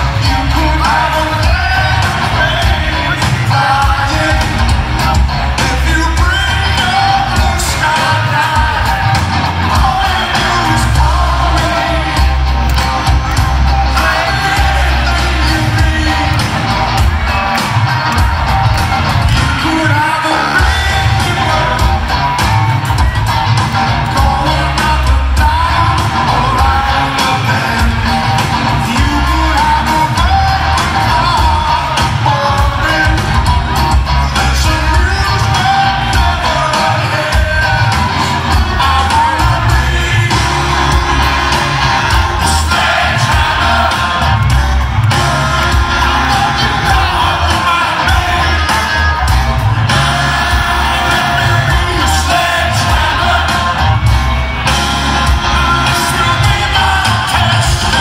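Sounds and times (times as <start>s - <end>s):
man singing: 0.0s - 12.6s, 13.8s - 16.8s, 19.3s - 22.1s, 24.0s - 54.1s, 55.2s - 58.0s
crowd shouts and whoops: 0.0s - 58.0s
live rock band playing: 0.0s - 58.0s.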